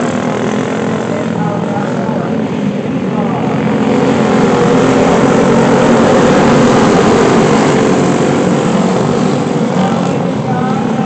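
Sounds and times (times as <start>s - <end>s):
go-kart engines racing: 0.0s - 11.0s.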